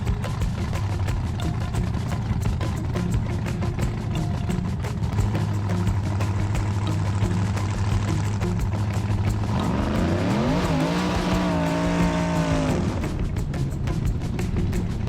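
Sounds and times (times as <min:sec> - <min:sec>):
music with a steady beat: 0:00.0 - 0:15.0
vehicle engine revving: 0:00.0 - 0:15.0.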